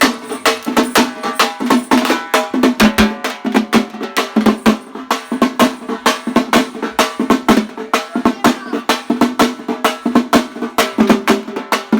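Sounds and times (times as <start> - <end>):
rapid drum strokes: 0.0 - 11.9.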